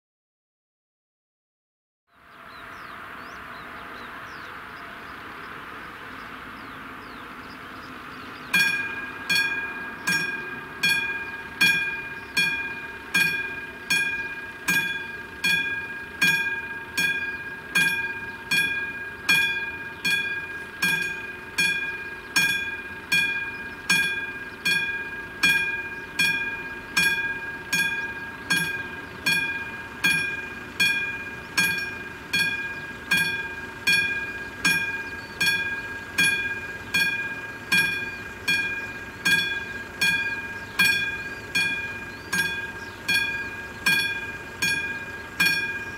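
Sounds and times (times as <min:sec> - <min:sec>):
level crossing bell ringing: 0:08.4 - 0:45.9.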